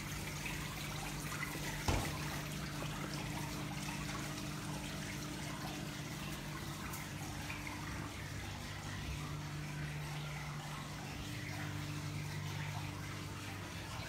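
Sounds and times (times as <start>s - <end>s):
low steady hum: 0.0s - 14.0s
water trickling: 0.0s - 14.0s.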